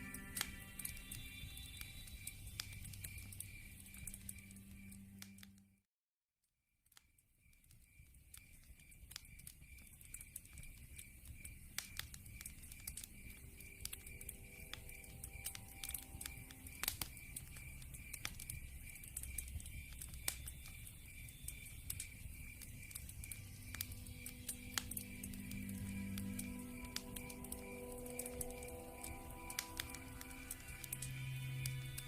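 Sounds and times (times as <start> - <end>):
log fire crackling and popping: 0.0 - 5.5, 7.4 - 32.0
insects chirping: 0.0 - 5.6, 7.4 - 32.0.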